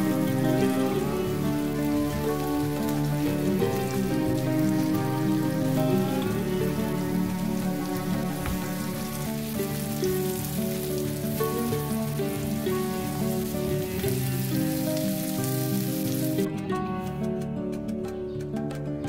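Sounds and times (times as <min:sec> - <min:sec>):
vegetables sizzling in a frying pan: 0:00.0 - 0:16.5
instrumental background music: 0:00.0 - 0:19.0.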